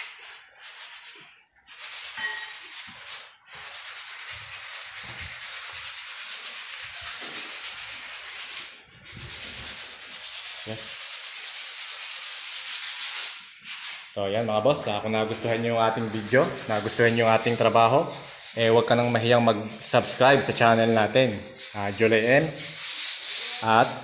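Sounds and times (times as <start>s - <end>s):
sandpaper rubbing on wood: 0.0s - 14.8s, 15.8s - 24.0s.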